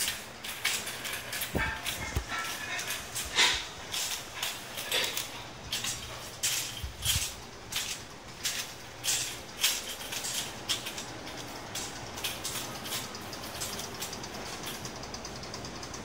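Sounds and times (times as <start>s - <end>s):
footsteps on tiled floor: 0.0s - 15.0s.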